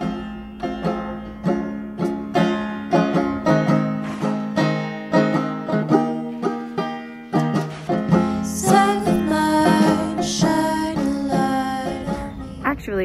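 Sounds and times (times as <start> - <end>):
plucked string notes: 0.0 - 13.0.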